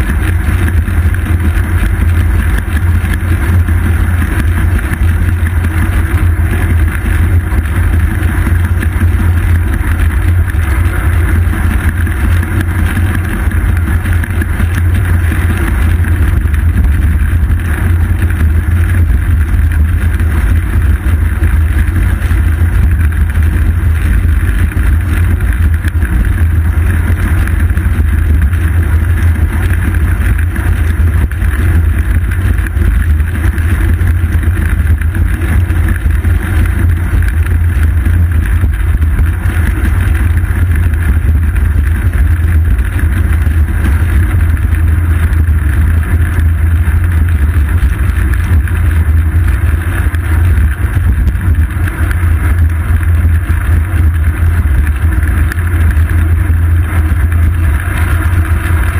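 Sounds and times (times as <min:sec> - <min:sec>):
road rumble: 0:00.0 - 0:58.9.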